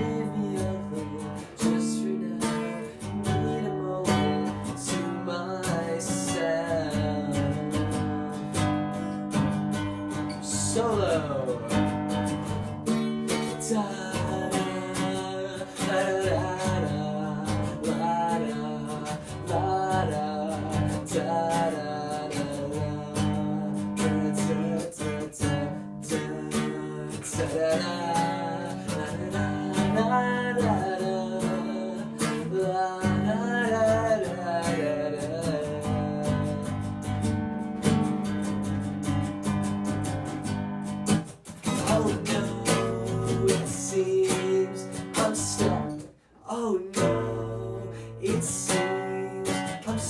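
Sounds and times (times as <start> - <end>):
bending guitar melody: 0.0 - 46.2, 47.0 - 50.0
acoustic guitar strumming chords: 0.0 - 50.0.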